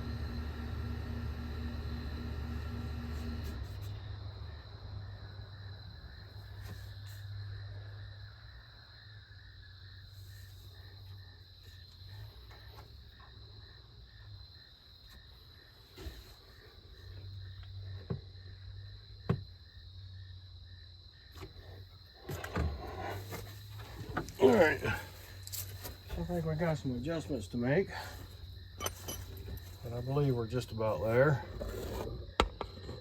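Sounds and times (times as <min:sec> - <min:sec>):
insects chirping: 0:01.8 - 0:33.0.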